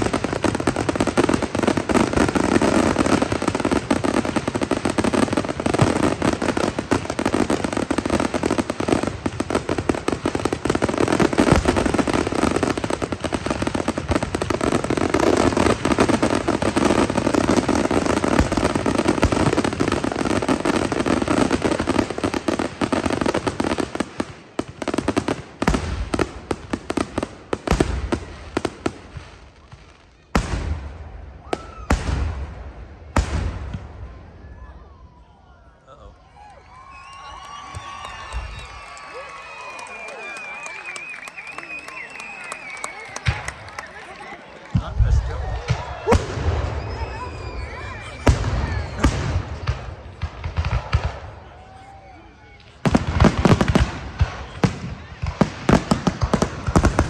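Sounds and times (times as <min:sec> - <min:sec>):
fireworks bursting and crackling: 0:00.0 - 0:35.3, 0:35.9 - 0:57.0
loud fireworks bangs: 0:00.0 - 0:35.3, 0:36.6 - 0:57.0.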